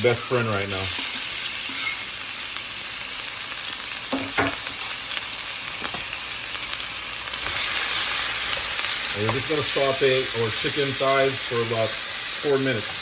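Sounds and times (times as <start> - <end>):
chicken sizzling in frying pan: 0.0 - 13.0.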